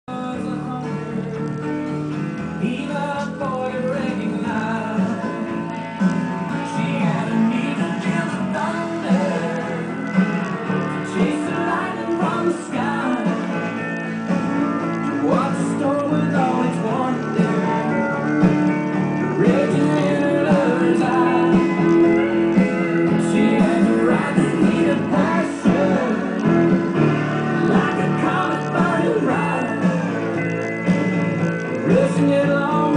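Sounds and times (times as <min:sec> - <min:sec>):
person singing: 0:00.0 - 0:01.6, 0:02.6 - 0:14.1, 0:15.0 - 0:18.2, 0:19.2 - 0:30.6, 0:31.4 - 0:32.9
guitar music: 0:00.1 - 0:32.9.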